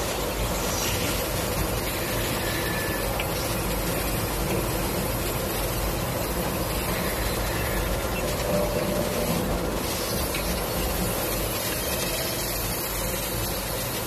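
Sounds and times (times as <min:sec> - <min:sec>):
production line machinery hum: 0:00.0 - 0:14.0.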